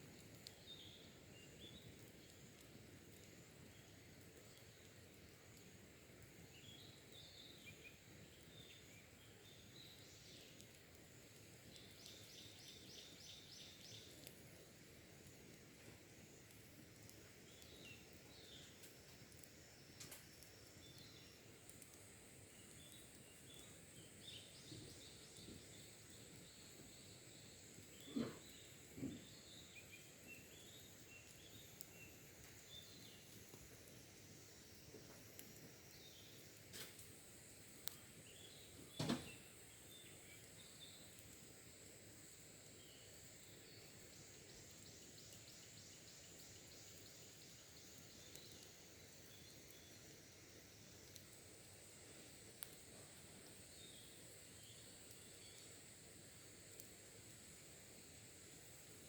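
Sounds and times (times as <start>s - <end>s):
birds chirping faintly: 0.0s - 59.0s
campfire wood popping: 0.0s - 59.0s.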